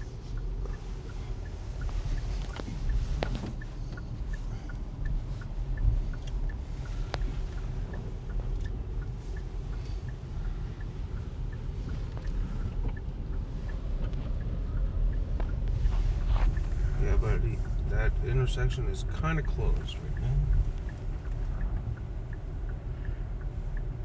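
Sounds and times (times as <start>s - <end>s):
car engine and tyre rumble: 0.0s - 24.0s
faint regular ticking: 0.0s - 24.0s.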